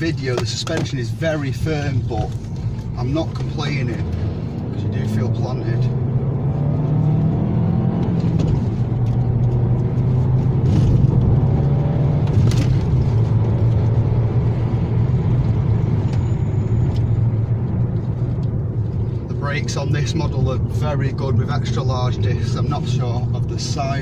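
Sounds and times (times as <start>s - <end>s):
car engine drone: 0.0s - 24.0s
road and tyre noise: 0.0s - 24.0s.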